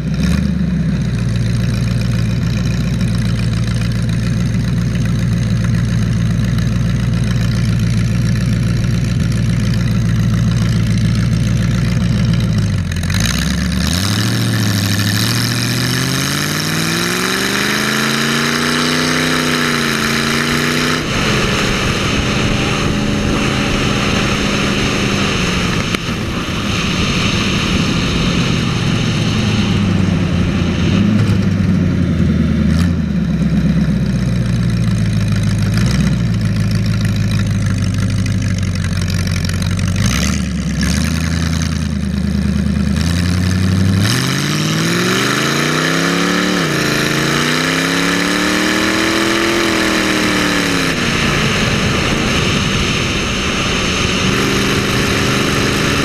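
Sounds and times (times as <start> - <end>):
engine running and revving: 0.0 - 56.0.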